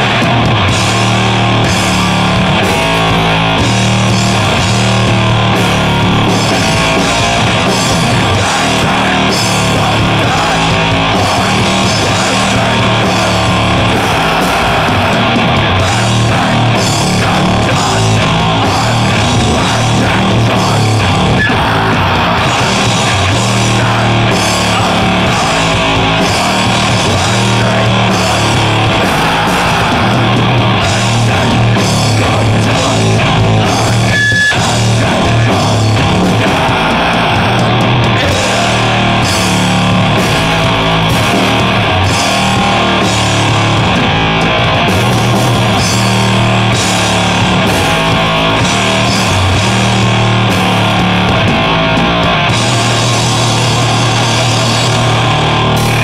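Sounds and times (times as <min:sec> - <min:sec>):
heavy distorted metal music: 0:00.0 - 0:56.0.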